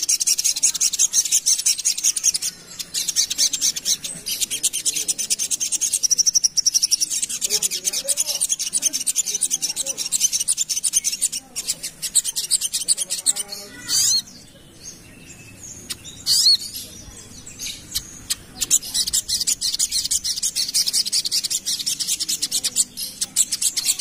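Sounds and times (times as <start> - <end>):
bird chipping notes: 0.0 - 24.0.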